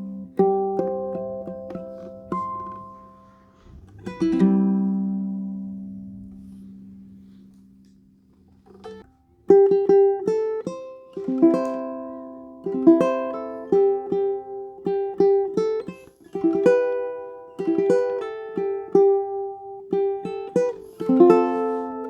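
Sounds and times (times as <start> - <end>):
ukulele fingerpicking: 0.0 - 22.0.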